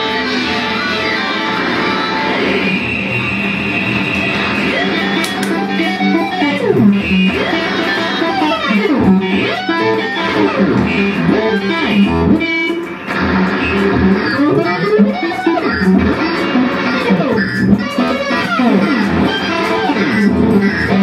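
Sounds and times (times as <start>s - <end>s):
electric guitar fast bending notes: 0.0s - 21.0s.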